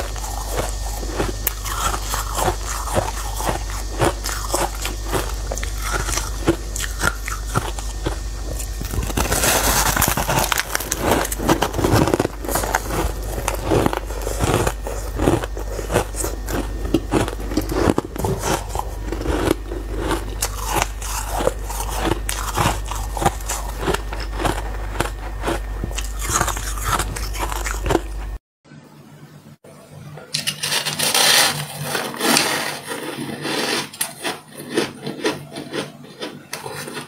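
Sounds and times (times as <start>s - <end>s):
ice being chewed crunching: 0.0s - 28.4s, 30.6s - 37.0s.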